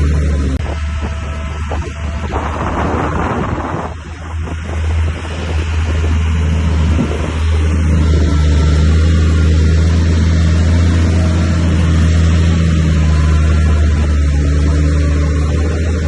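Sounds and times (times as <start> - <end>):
heavy diesel engine under load: 0.0 - 16.0.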